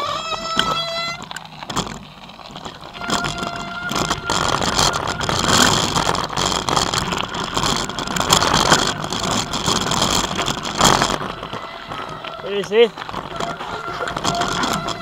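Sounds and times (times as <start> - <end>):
bike clattering over bumps: 0.0 - 15.0
bike tyres rolling on gravel: 0.0 - 15.0.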